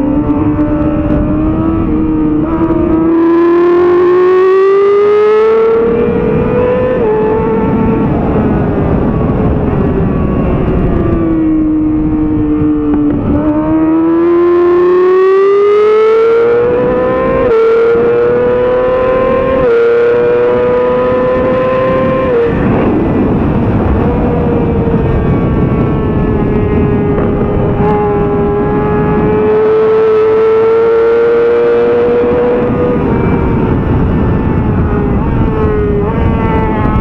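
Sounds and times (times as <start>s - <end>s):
motorcycle engine revving: 0.0s - 37.0s
road noise: 0.0s - 37.0s
wind rush: 0.0s - 37.0s.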